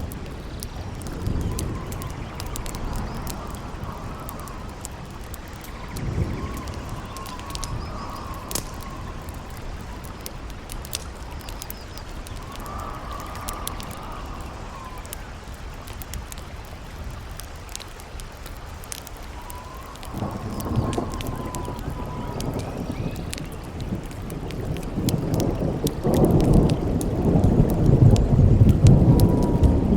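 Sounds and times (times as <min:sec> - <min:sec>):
campfire crackling: 0:00.0 - 0:29.9
howling wind whistling: 0:00.0 - 0:29.9.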